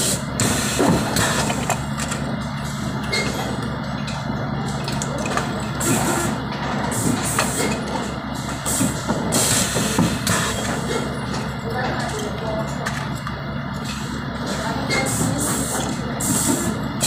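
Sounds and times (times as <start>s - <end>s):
factory machinery hum: 0.0s - 17.0s.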